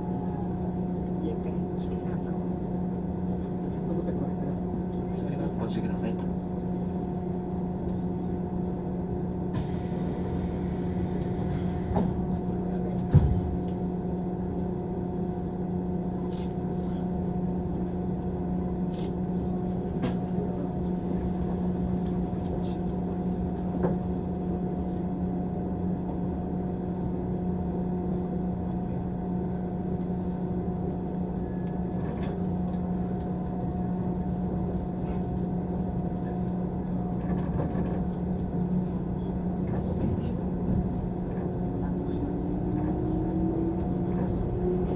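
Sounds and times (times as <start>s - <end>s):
train cabin hum: 0.0s - 4.9s, 6.6s - 44.9s.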